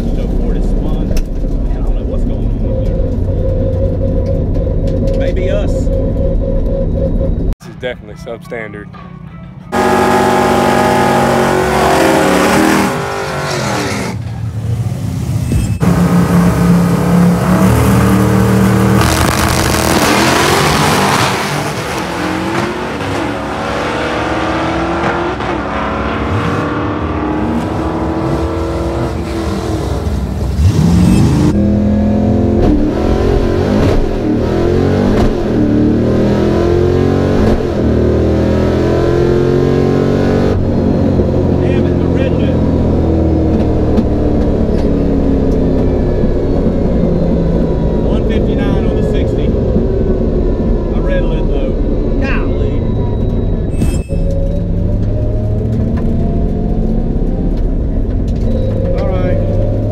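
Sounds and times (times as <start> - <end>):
drag cars revving and launching: 9.8 - 59.9.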